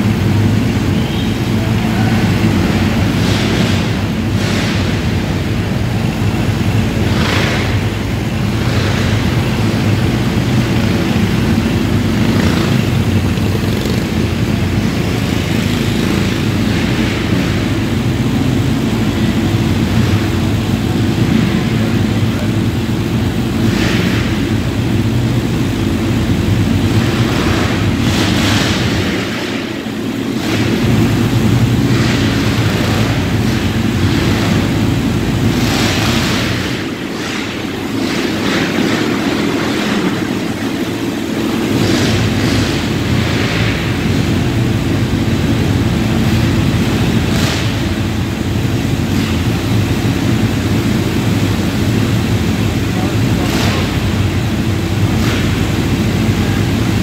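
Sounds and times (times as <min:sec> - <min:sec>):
kart engines droning: 0:00.0 - 0:57.0.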